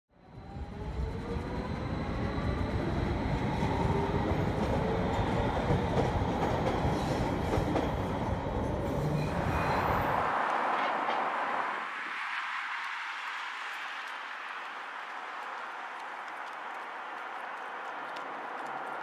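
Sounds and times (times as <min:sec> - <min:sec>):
train rumbling on rails: 0:00.2 - 0:19.0.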